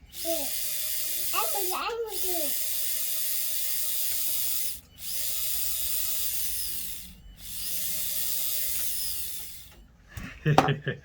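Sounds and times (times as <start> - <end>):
small motor and gearbox whirring: 0.0 - 10.0.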